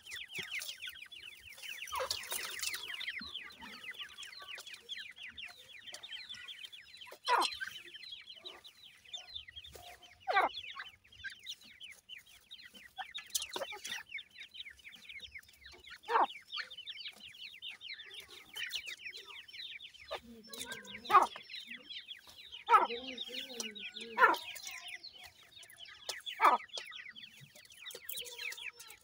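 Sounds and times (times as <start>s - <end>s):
chicks cheeping: 0.0s - 29.0s
long downward-sliding bird calls: 0.0s - 29.0s.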